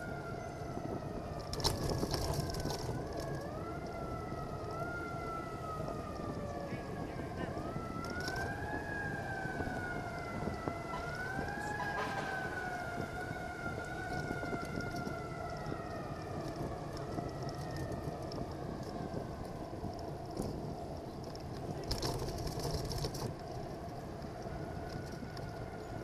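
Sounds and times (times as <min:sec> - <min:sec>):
emergency siren wailing: 0:00.0 - 0:26.0
road noise: 0:00.0 - 0:26.0
wind noise on microphone: 0:00.0 - 0:26.0.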